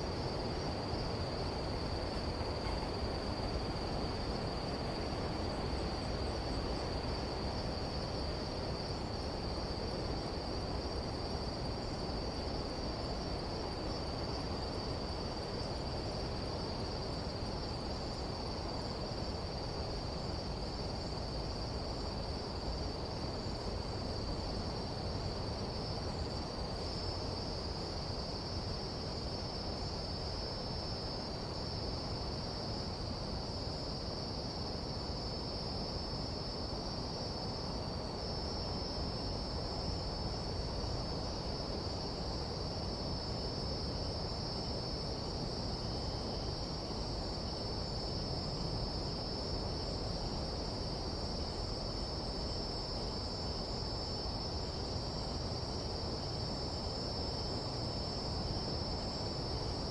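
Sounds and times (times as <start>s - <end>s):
insects trilling: 0.0s - 59.9s
low background hiss: 0.0s - 59.9s.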